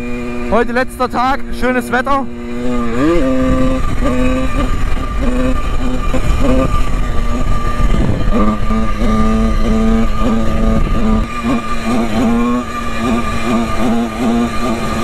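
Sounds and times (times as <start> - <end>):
motorcycle engine running: 0.0 - 15.0
wind on microphone: 2.5 - 15.0.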